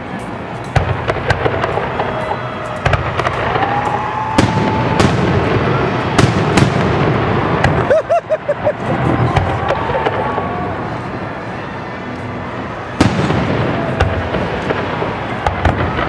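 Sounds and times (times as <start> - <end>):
fireworks bangs and crackles: 0.0 - 16.0
fireworks whistling: 0.4 - 16.0.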